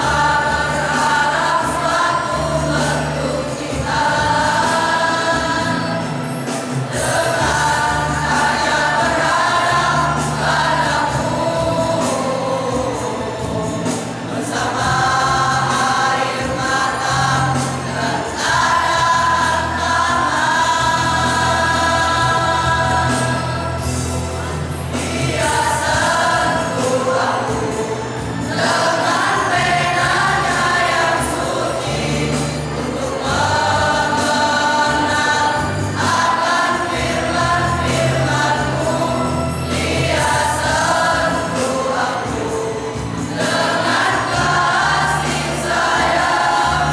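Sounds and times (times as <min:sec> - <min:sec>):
male choir singing: 0:00.0 - 0:46.9.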